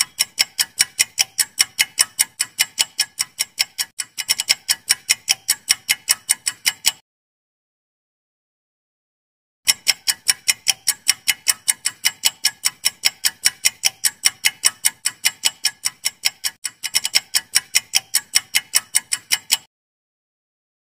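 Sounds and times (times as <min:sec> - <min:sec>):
clock ticking: 0:00.0 - 0:07.0, 0:09.6 - 0:19.7.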